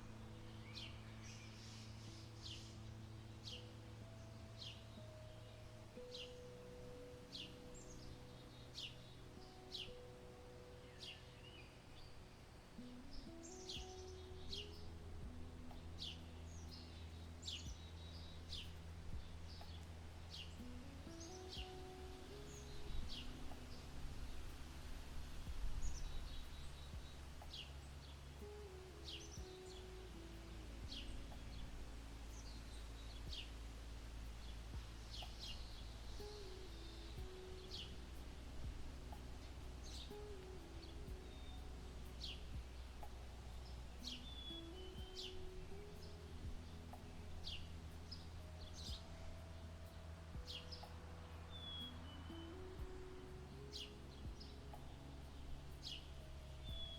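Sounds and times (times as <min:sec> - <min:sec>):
low outdoor rumble: 0:00.0 - 0:56.9
low steady hum: 0:00.0 - 0:56.9
small birds chirping: 0:00.0 - 0:56.9.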